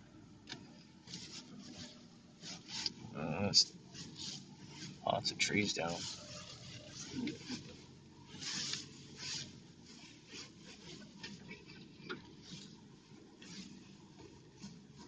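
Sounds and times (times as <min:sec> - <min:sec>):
faint rustling and rubbing: 0:00.7 - 0:15.0.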